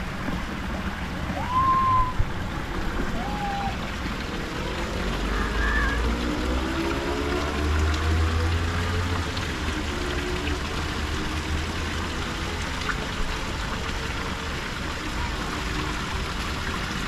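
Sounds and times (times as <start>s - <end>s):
low steady rumble: 0.0s - 17.0s
water splashing into a pool: 0.0s - 17.0s.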